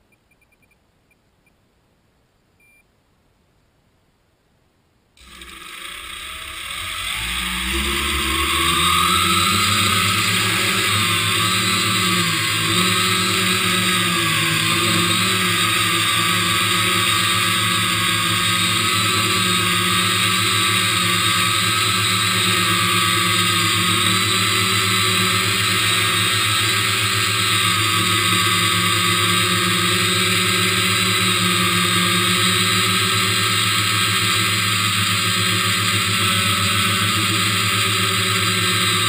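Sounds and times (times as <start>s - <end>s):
drone motors whining: 5.2s - 39.0s.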